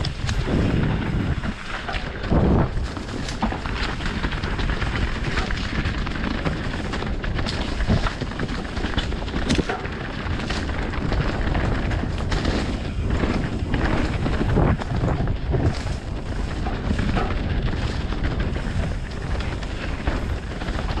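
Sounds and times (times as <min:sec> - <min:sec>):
bike rattling and knocking: 0:00.0 - 0:21.0
wind buffeting microphone: 0:00.0 - 0:21.0.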